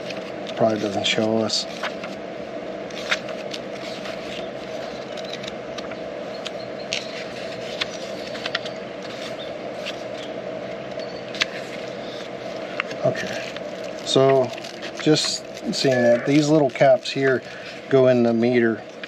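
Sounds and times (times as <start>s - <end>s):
steady low hum: 0.0s - 19.0s
plastic and paper handling clicks: 2.9s - 19.0s.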